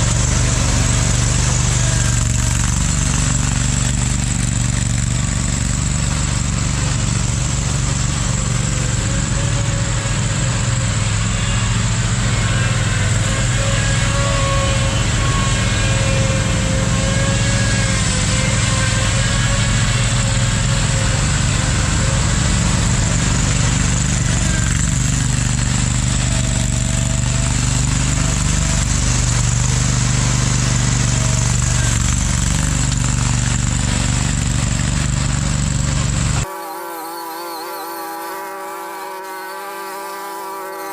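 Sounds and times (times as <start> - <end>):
riding lawn mower engine: 0.0 - 40.9.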